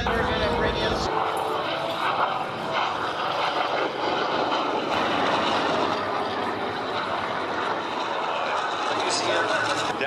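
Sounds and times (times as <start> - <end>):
radial piston aircraft engines: 0.0 - 10.0.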